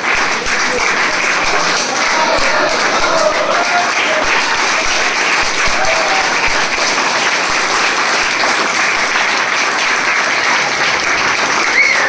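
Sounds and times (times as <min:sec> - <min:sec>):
crowd applause: 0:00.0 - 0:12.0.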